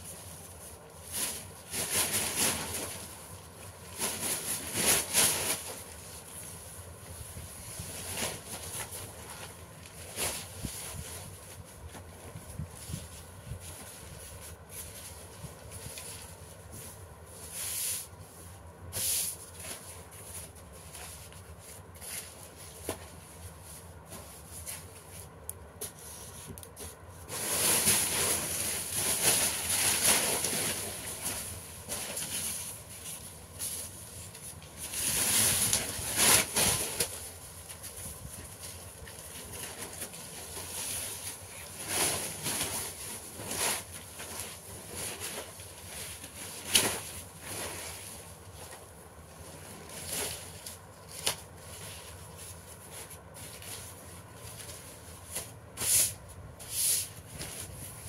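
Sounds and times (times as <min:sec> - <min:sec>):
paper rustling and crinkling: 0:00.0 - 0:58.0.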